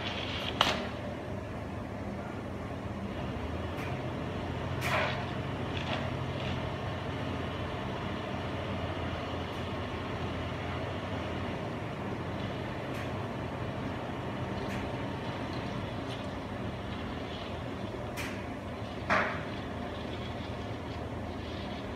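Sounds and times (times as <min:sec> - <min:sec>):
diesel engine running: 0:03.0 - 0:21.9.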